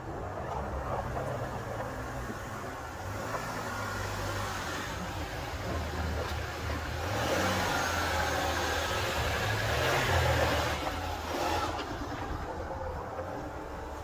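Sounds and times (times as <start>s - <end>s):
car engine hum: 0.0s - 14.0s
tyre and road noise: 0.0s - 14.0s.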